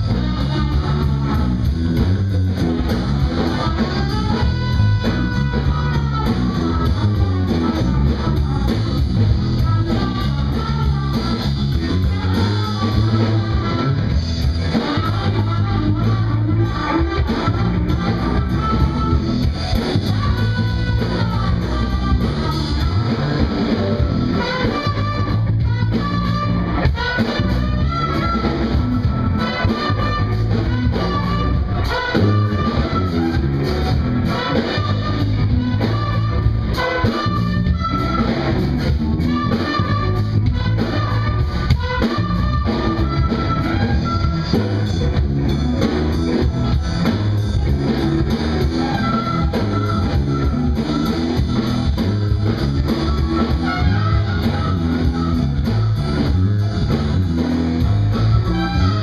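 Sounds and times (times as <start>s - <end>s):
drums with cymbals: 0.0s - 59.0s
electric bass: 0.0s - 59.0s
trumpet melody: 0.0s - 59.0s.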